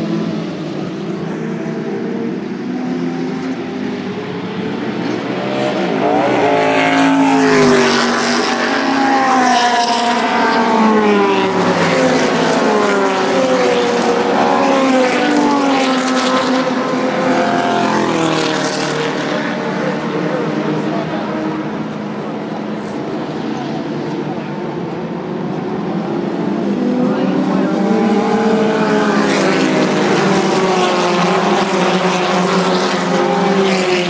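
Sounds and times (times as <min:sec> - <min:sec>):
racing cars passing at speed: 0:00.0 - 0:34.0.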